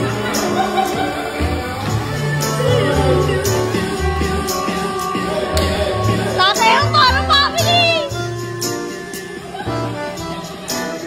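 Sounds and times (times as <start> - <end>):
dance music with bass line: 0.0 - 8.9.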